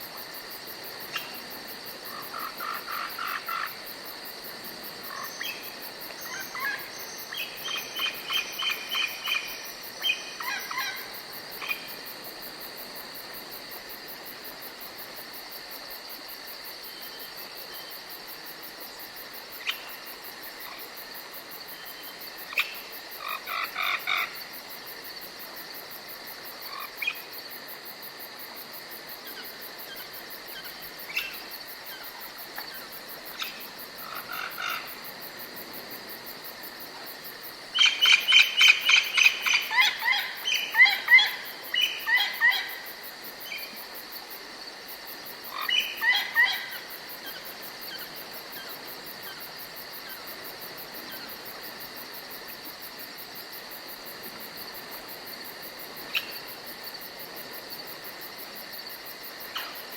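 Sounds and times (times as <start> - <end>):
insect trill: 0.0 - 59.9.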